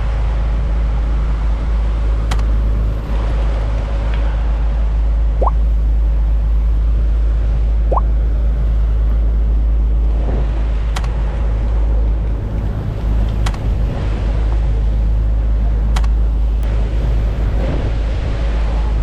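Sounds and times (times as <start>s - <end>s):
boat engine rumbling: 0.2s - 19.0s.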